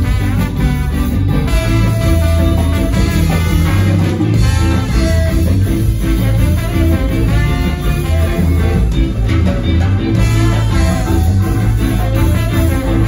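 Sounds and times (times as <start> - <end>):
drums: 0.0 - 13.0
electric guitar: 0.0 - 13.0
tenor saxophone: 0.0 - 13.0
trombone: 0.0 - 13.0.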